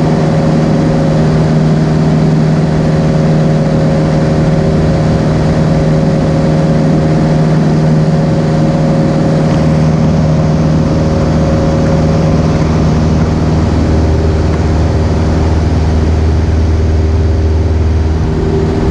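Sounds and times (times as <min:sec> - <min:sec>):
deep hum: 0:00.0 - 0:18.9
plane engine and propeller droning: 0:00.0 - 0:18.9.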